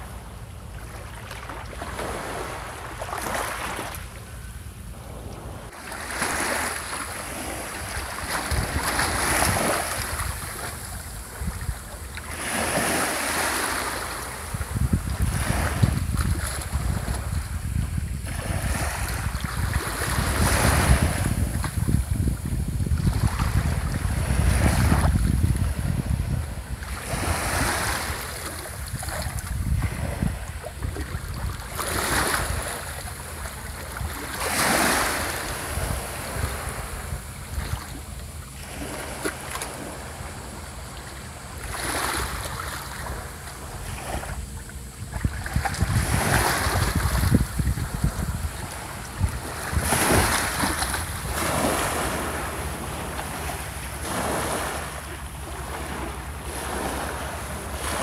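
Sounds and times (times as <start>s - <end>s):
small waves breaking on shore: 0.0s - 58.0s
wind rumble on microphone: 0.0s - 58.0s.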